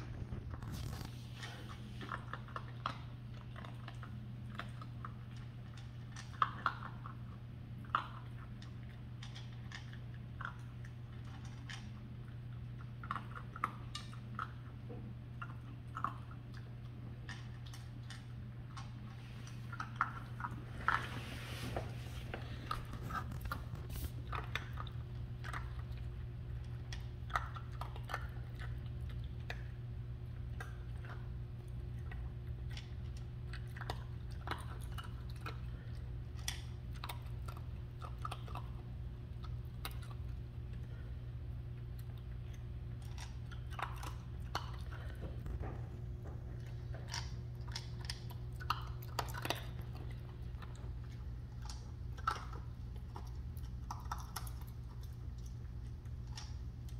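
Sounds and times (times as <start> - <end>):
puppy crunching dry kibble: 0.0 - 56.9
steady low hum: 0.0 - 56.9.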